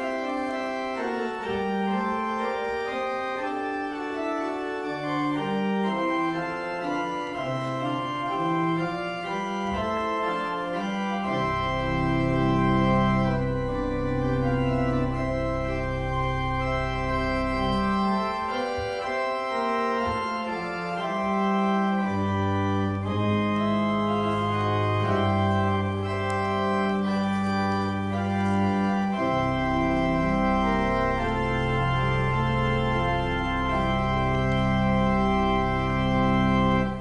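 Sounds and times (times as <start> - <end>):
deep organ bass line: 0.0 - 37.0
organ chords: 0.0 - 37.0.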